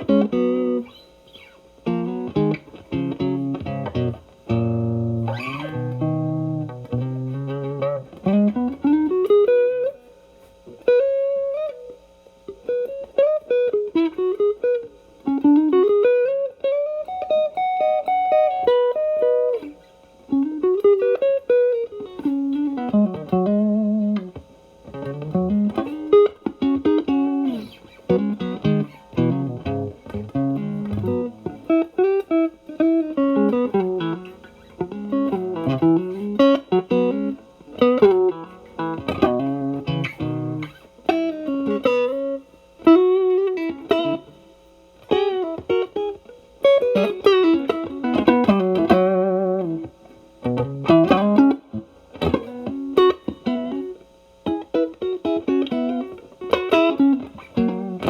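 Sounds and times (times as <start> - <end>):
overdriven electric guitar: 0.0 - 58.0.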